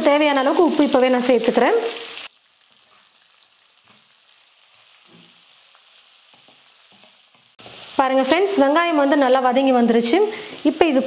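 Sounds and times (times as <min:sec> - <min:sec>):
faint sizzling in oil: 0:00.0 - 0:11.0.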